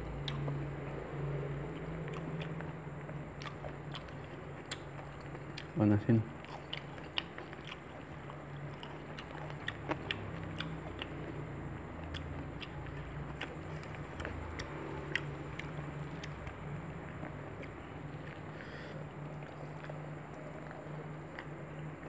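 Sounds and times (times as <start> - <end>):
person chewing food: 0.0 - 22.0
steady low hum: 0.0 - 22.0.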